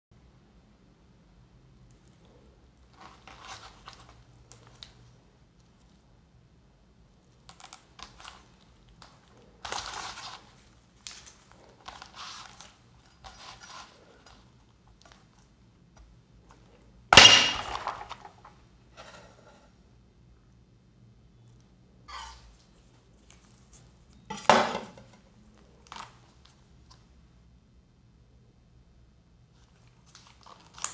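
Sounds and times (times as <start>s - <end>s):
low steady hum: 0.2s - 30.9s.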